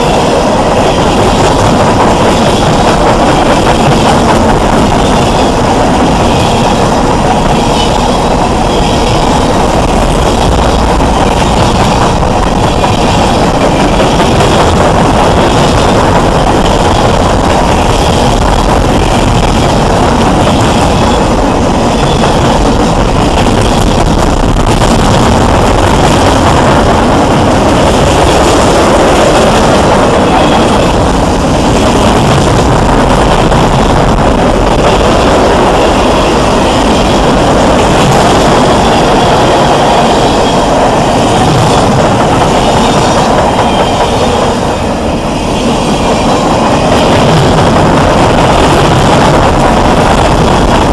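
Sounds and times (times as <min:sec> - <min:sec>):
train passing rumble: 0:00.0 - 0:50.9.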